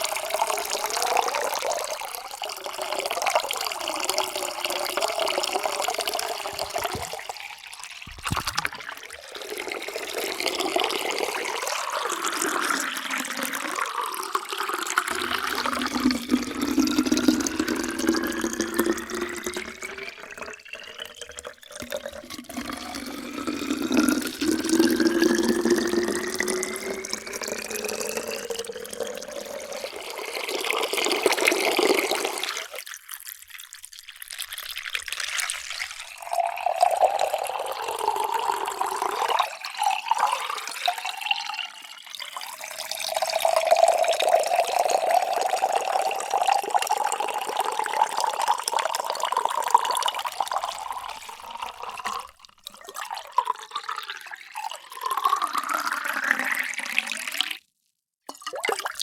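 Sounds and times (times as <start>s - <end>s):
water pouring into a container: 0.0s - 59.0s.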